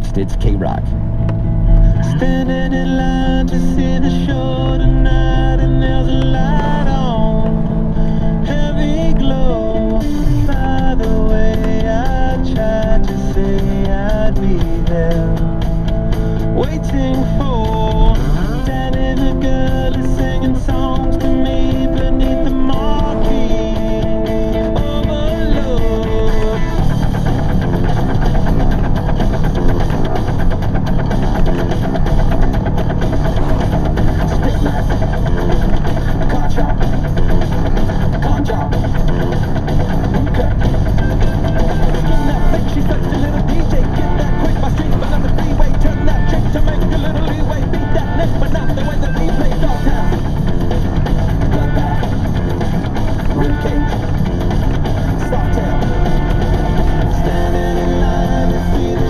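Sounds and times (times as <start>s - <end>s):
rock song on radio: 0.0s - 59.0s
steady drum beat: 8.5s - 59.0s.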